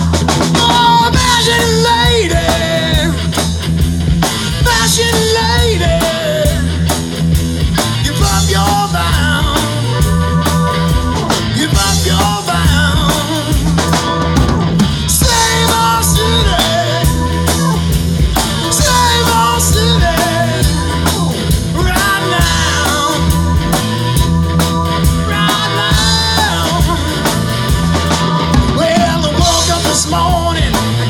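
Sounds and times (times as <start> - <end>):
live rock band playing: 0.0 - 31.0
man singing: 0.4 - 3.4, 4.2 - 6.9, 7.8 - 24.2, 25.0 - 31.0.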